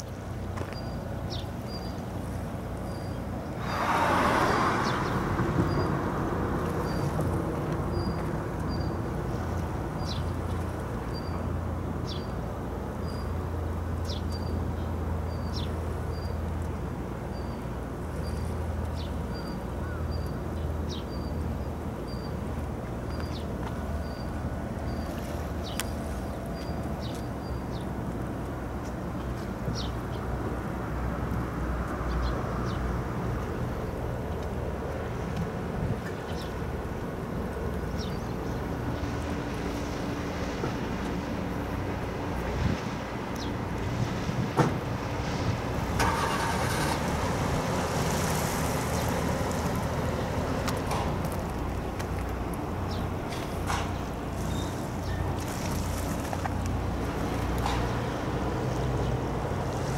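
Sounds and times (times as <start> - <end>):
distant ferry engines running: 0.0 - 59.9
rush of boat wash: 0.0 - 59.9.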